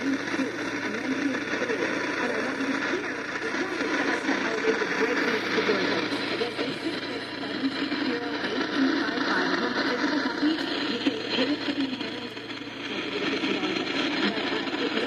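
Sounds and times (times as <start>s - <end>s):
radio broadcast voice and music: 0.0s - 15.0s.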